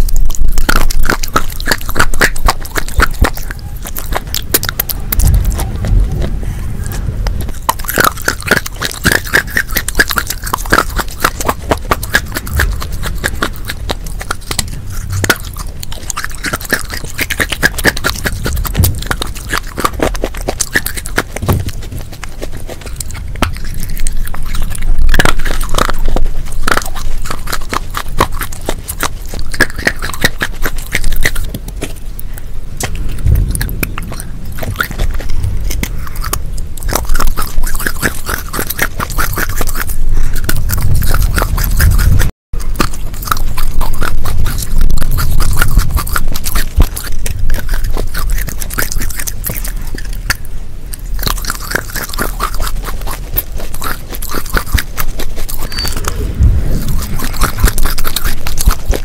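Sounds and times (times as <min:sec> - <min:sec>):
crunching and chewing clay: 0:00.0 - 0:59.0.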